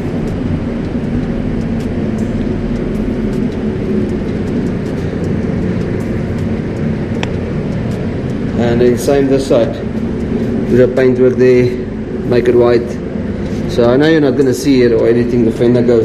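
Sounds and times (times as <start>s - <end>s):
mechanical drone with low hum: 0.0s - 16.0s.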